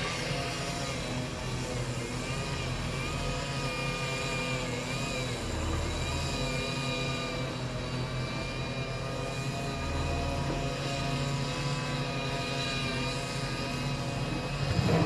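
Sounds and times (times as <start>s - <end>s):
heavy machinery engine humming: 0.0s - 15.0s
high wavering whine: 0.0s - 15.0s.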